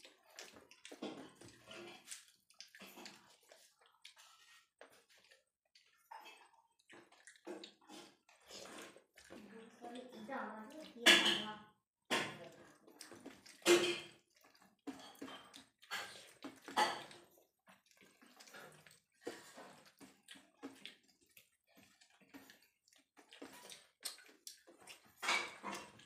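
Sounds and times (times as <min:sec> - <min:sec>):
chewing and mouth smacks: 0:00.0 - 0:11.0, 0:12.2 - 0:26.0
wet squelching of rice mixed by hand: 0:00.0 - 0:11.0, 0:12.4 - 0:26.0.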